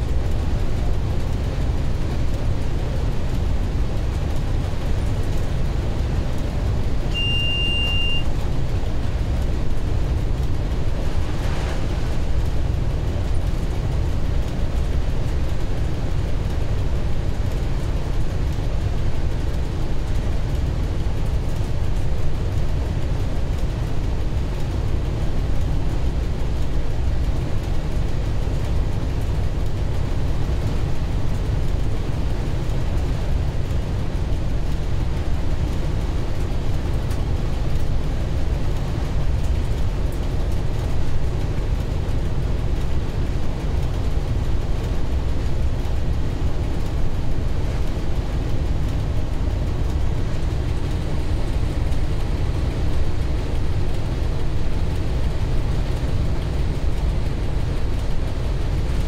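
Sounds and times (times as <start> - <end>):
diesel locomotive engine drone: 0.0 - 59.0
wheel and rail noise: 0.0 - 59.0.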